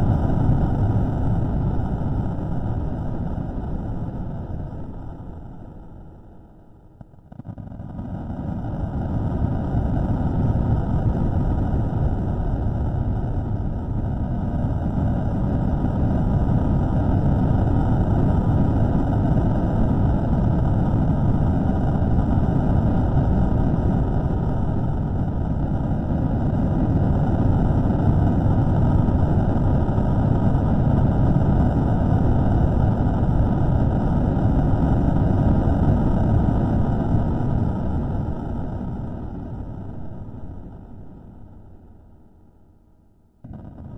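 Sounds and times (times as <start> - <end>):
low rumbling noise: 0.0 - 43.9.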